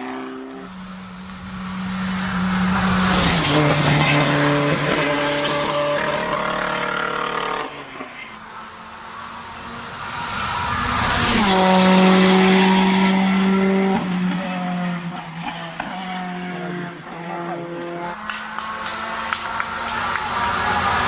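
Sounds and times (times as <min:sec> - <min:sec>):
rally car engine at high revs: 0:00.0 - 0:08.3, 0:08.9 - 0:21.0.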